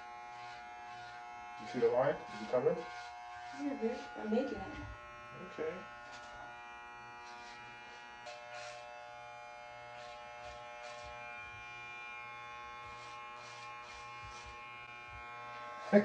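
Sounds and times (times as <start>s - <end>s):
faint brushing strokes: 0.0s - 16.0s
hair clippers buzzing: 0.0s - 16.0s.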